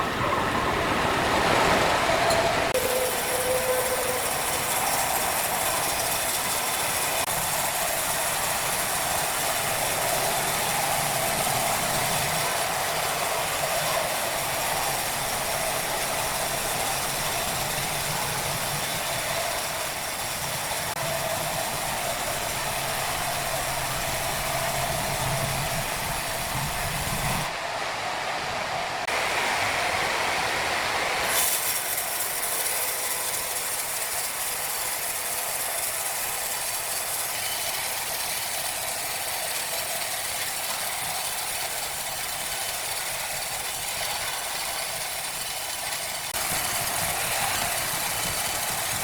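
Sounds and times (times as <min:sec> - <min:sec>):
sawmill machinery running: 0:00.0 - 0:49.0.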